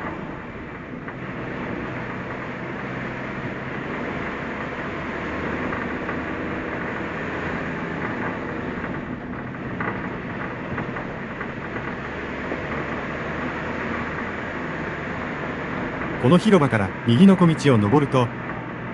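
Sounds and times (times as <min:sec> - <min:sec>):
light ticks and crackles: 0:00.0 - 0:16.6
car engine and tyre noise: 0:00.0 - 0:18.9.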